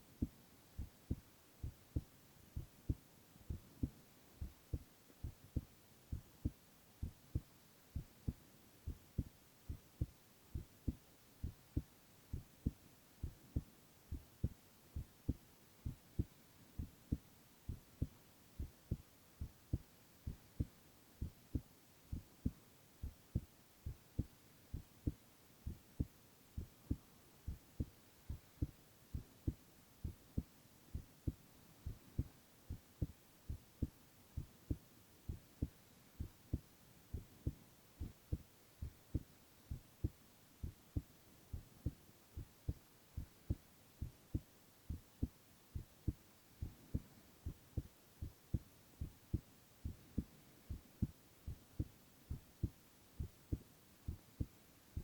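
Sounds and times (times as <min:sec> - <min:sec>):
faint hiss: 0:00.0 - 0:55.0
heartbeat thumps: 0:00.2 - 0:55.0.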